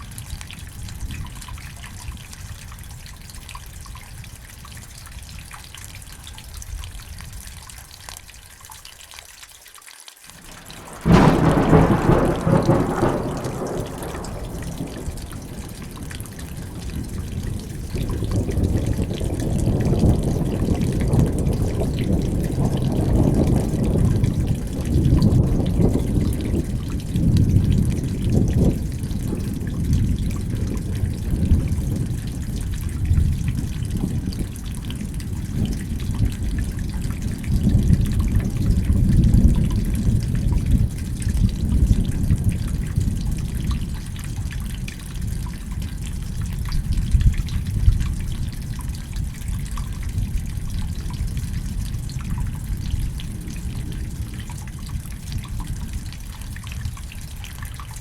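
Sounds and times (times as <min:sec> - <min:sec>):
steady rain with drips: 0:00.0 - 0:58.0
rolling thunder rumble: 0:10.4 - 0:57.4.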